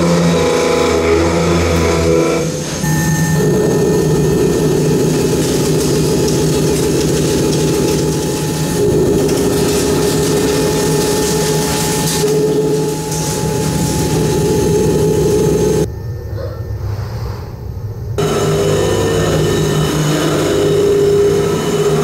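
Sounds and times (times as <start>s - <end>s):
milling machine cutting steel: 0.0s - 15.9s, 18.2s - 22.0s.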